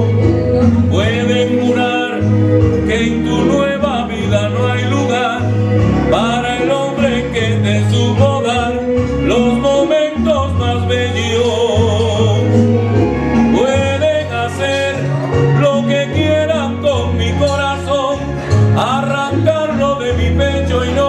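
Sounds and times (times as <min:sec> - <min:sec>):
instrumental backing with bass: 0:00.0 - 0:21.0
man singing: 0:00.0 - 0:21.0.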